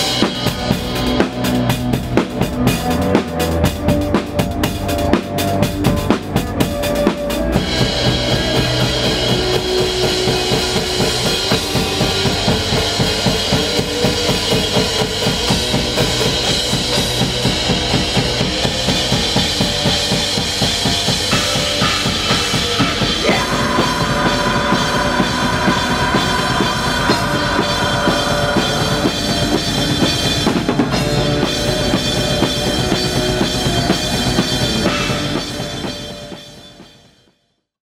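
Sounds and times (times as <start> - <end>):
recorded metal song with guitars: 0.0 - 37.1
fast blast beat drumming: 0.0 - 37.2.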